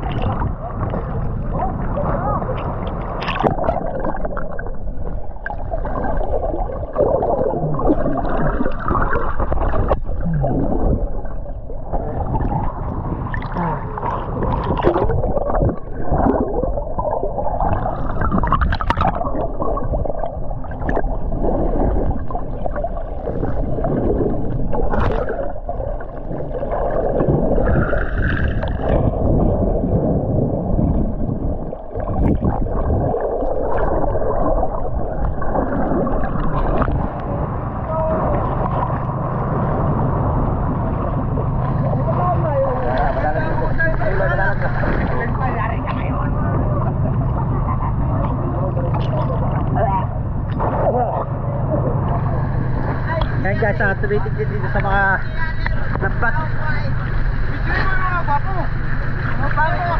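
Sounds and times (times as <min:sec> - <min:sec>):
bubbling: 0:00.0 - 0:59.9
underwater gurgling water: 0:00.0 - 0:59.9.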